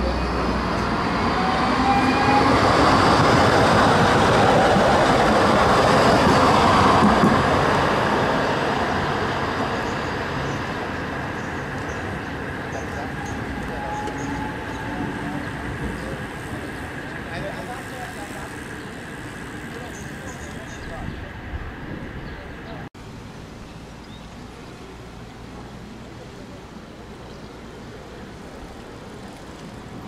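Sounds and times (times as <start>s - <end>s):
tram wheels rumbling on rails: 0.0s - 23.5s, 24.3s - 30.0s.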